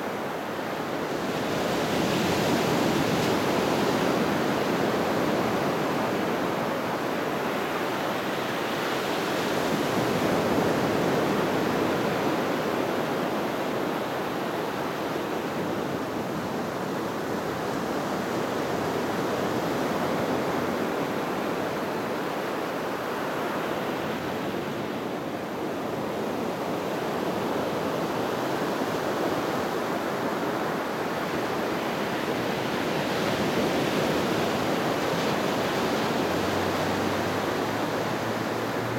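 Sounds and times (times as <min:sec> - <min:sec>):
small waves breaking on sand: 0:00.0 - 0:38.9.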